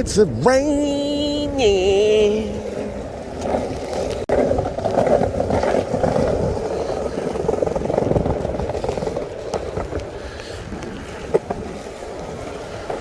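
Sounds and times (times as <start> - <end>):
wind on microphone: 0.0 - 13.0
skateboard wheels rolling on wet pavement: 0.6 - 13.0.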